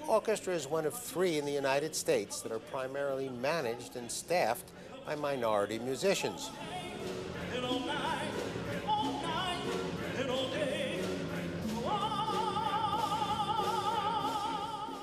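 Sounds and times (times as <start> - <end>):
man singing operatically: 0.0 - 15.0.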